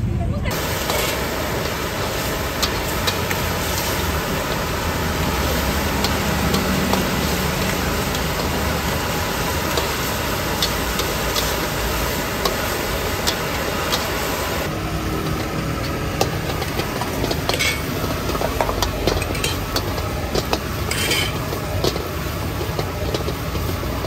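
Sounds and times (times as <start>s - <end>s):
steady roar of noise: 0.0s - 24.0s.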